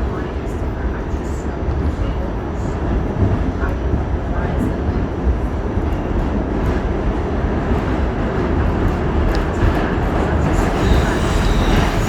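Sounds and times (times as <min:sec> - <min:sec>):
subway train wheels rumbling on rails: 0:00.0 - 0:12.0.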